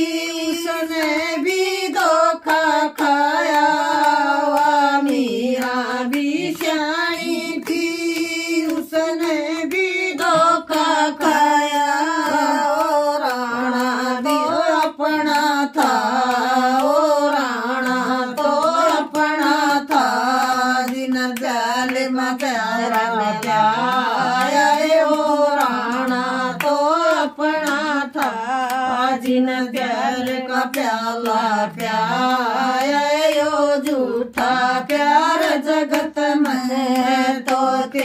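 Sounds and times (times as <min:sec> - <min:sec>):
hand-clapping: 0:00.0 - 0:38.0
women singing together: 0:00.0 - 0:38.0.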